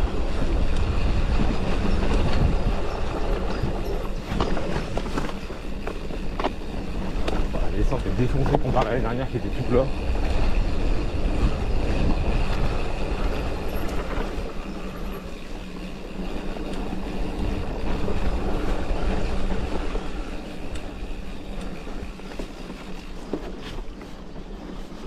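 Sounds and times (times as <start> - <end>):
wind on microphone: 0.0 - 24.6
bike rattling: 0.0 - 25.0
tyres rumbling on dirt: 0.0 - 25.0.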